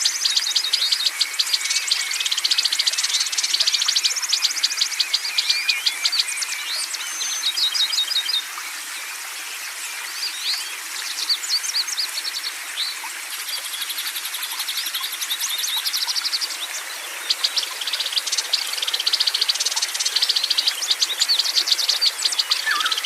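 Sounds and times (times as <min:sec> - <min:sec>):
short upswept bird calls: 0:00.0 - 0:23.0
songbirds chirping and trilling: 0:00.0 - 0:23.0.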